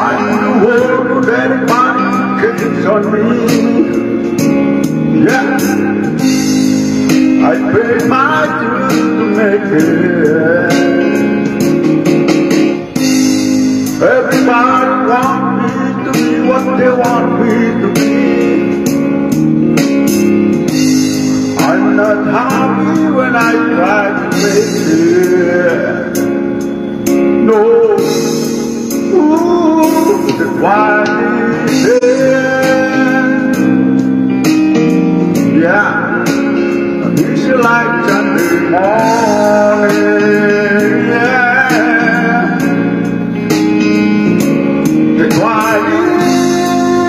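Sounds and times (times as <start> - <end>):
man singing into microphone: 0.0 - 4.3, 5.0 - 11.6, 13.9 - 18.9, 21.4 - 34.1, 35.4 - 43.2, 45.1 - 47.0
karaoke backing track with guitar: 0.0 - 47.0.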